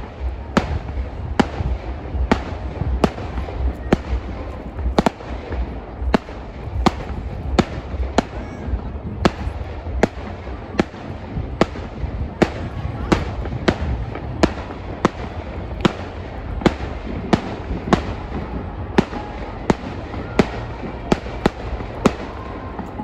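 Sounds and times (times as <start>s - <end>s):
fireworks bangs: 0.0s - 23.0s
low rumble: 0.0s - 23.0s.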